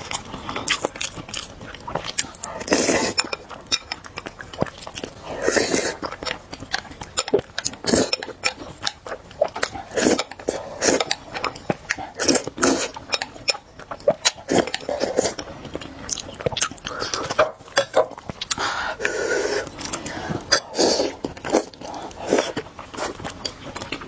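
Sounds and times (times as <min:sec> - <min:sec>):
wet chewing with mouth clicks: 0:00.0 - 0:24.0.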